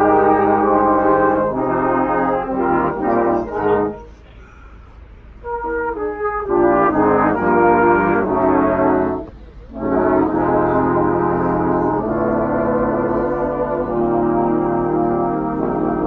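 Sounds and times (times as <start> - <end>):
brass band playing: 0.0 - 4.3, 5.3 - 16.0.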